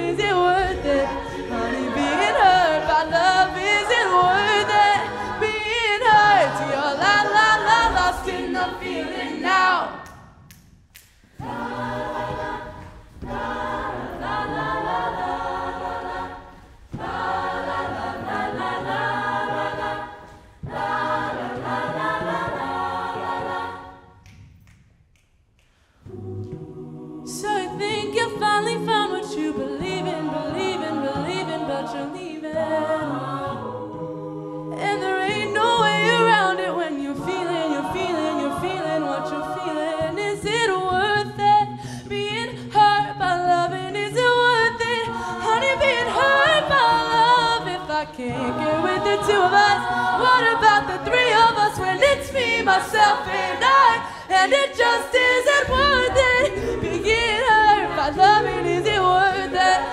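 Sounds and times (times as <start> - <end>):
a cappella group singing: 0.0 - 10.4, 11.0 - 24.3, 25.8 - 59.9.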